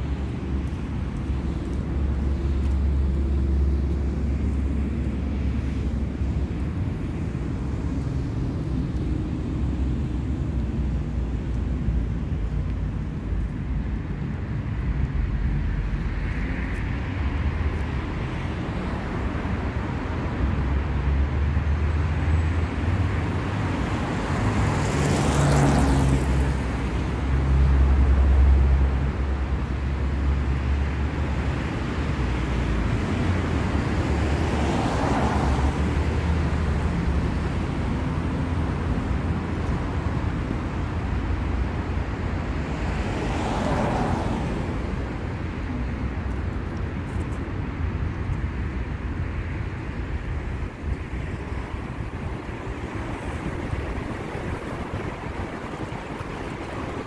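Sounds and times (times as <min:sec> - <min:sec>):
cars passing by: 0:00.0 - 0:57.0
traffic rumble: 0:00.0 - 0:57.0.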